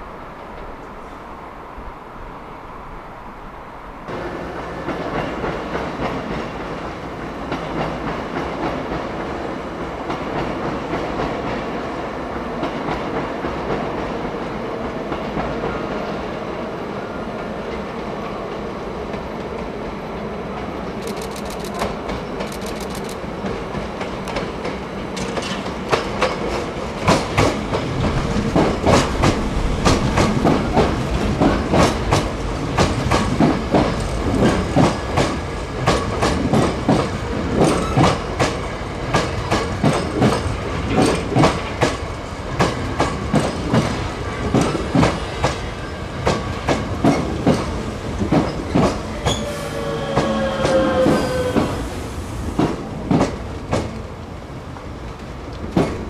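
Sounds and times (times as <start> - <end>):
train wheels rumbling: 4.0 - 56.0.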